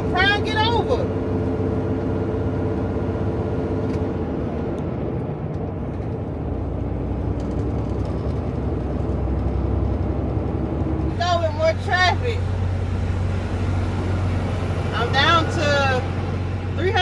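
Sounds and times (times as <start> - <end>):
diesel engine drone: 0.0 - 17.0
road and tyre noise: 0.0 - 17.0.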